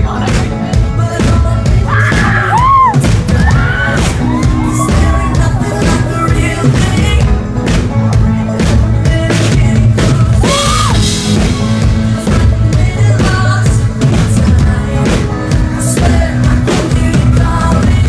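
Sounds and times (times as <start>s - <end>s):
man singing: 0.0s - 18.0s
pop-rock band playing: 0.0s - 18.0s.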